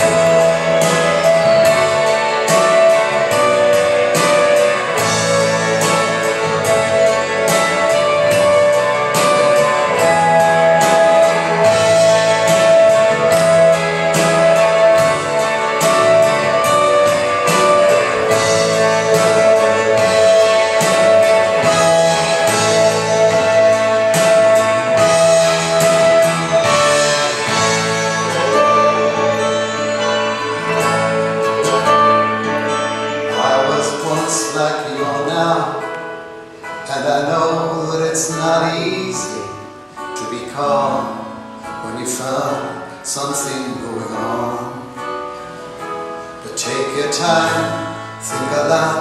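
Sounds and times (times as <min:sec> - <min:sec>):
pop ballad over speaker: 0:00.0 - 0:49.0.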